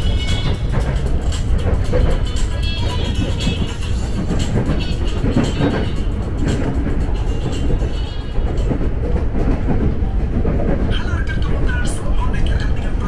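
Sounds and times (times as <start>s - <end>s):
train rumbling on rails: 0.0s - 13.0s
train wheel clicks: 0.0s - 13.0s.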